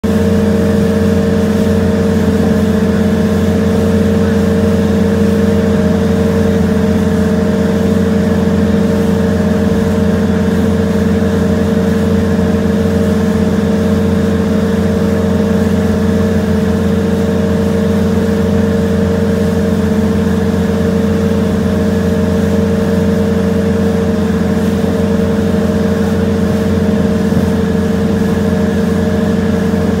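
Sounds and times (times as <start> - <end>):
boat engines droning: 0.0 - 30.0
churning wake wash: 0.0 - 30.0.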